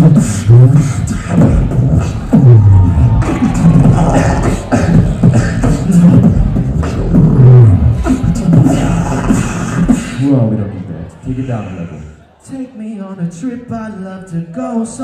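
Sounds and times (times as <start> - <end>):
beatboxing on microphones: 0.0 - 15.0.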